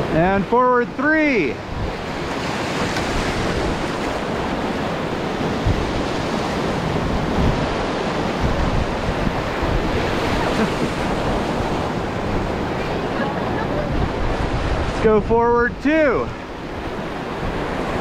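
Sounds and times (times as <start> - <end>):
whitewater rapids rushing: 0.0 - 18.0
wind buffeting microphone: 1.6 - 18.0.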